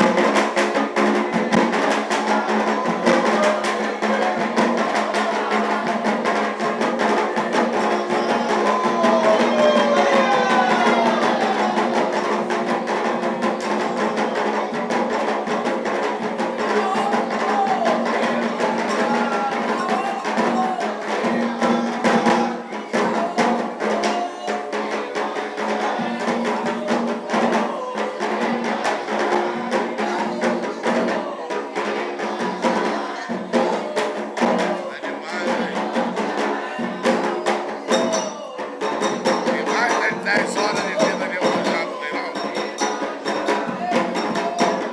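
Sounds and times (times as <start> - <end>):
bell-like percussion: 0.0 - 44.9
hand drums: 0.0 - 44.9
voices singing: 0.0 - 44.9.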